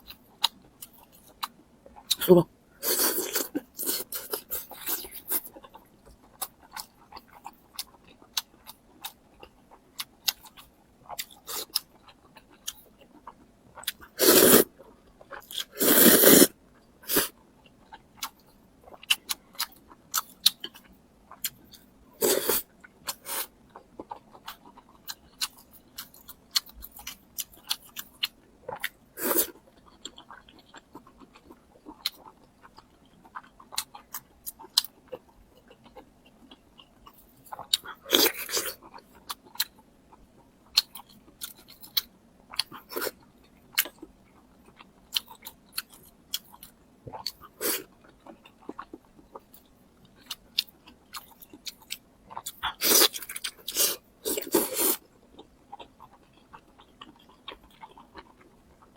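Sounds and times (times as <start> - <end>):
person chewing crispy food: 0.0 - 58.9.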